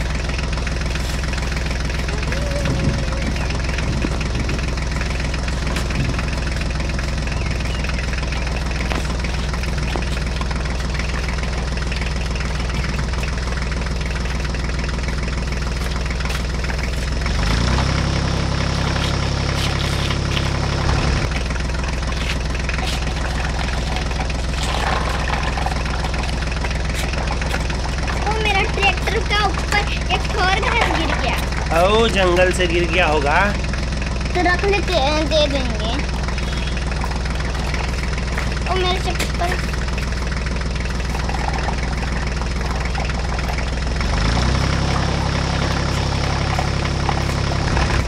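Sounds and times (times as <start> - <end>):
tractor engine idling: 0.0 - 48.0.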